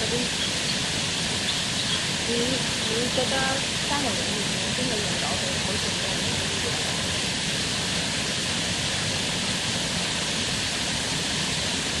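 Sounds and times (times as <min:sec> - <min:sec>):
rushing hiss: 0:00.0 - 0:12.0.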